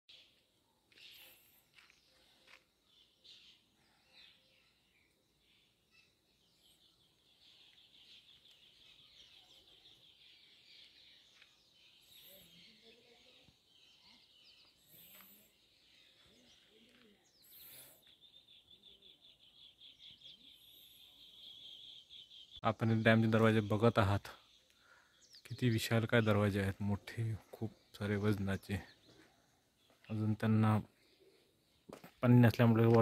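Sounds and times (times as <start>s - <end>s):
bird calls: 0.1s - 33.0s.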